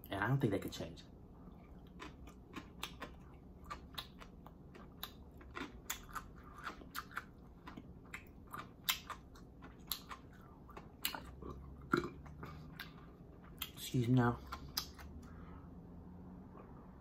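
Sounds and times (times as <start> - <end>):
chewing with mouth clicks: 1.4 - 15.4.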